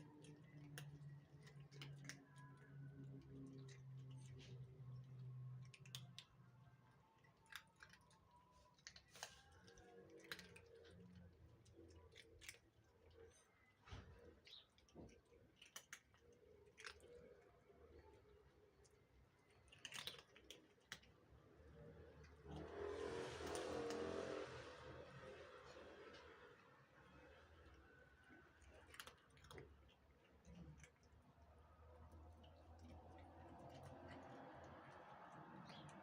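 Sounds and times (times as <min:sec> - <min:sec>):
cats chewing food: 0:00.0 - 0:36.0.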